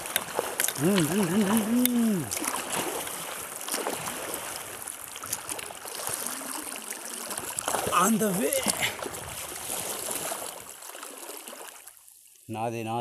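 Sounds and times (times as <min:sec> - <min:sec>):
hands paddling through water: 0:00.0 - 0:11.8.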